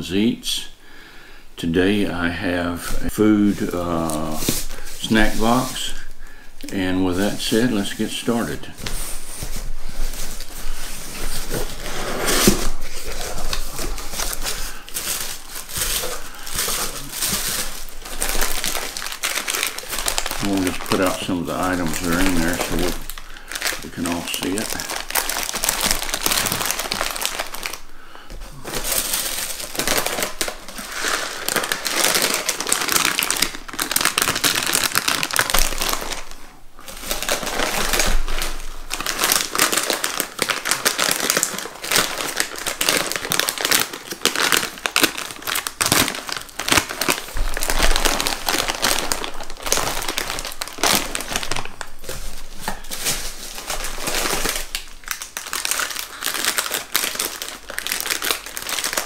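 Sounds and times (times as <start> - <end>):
plastic packets crinkling: 1.6 - 59.0
tissue paper rustling: 2.8 - 6.1, 7.0 - 27.8, 28.4 - 59.0.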